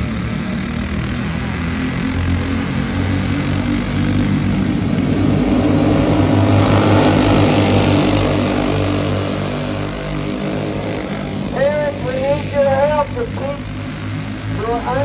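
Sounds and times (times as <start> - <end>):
small race car engines droning: 0.0 - 15.0.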